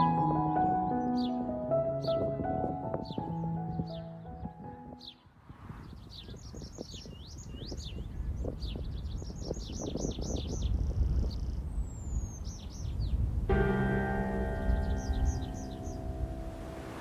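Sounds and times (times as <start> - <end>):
small birds chirping: 0.0 - 13.3, 14.6 - 16.2.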